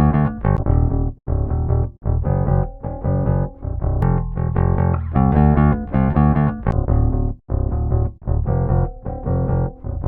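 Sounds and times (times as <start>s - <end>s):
pitch-shifted bass guitar notes: 0.0s - 10.0s.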